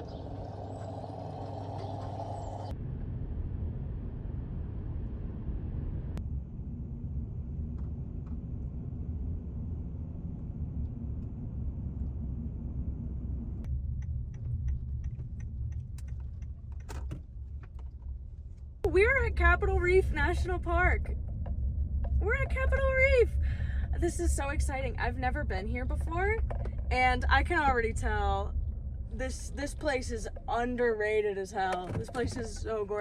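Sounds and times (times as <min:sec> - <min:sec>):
road rumble inside a vehicle: 0:00.0 - 0:33.0.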